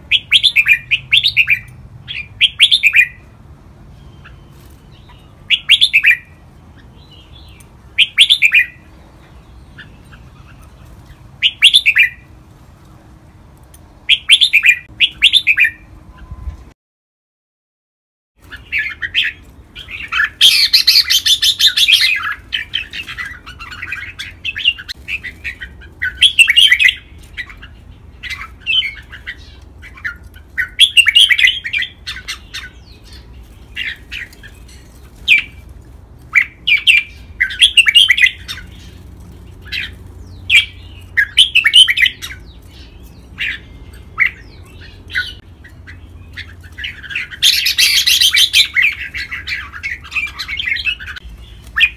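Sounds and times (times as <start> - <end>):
bird warbling song: 0.0 - 3.3, 3.9 - 12.3, 14.0 - 16.5, 18.4 - 51.9.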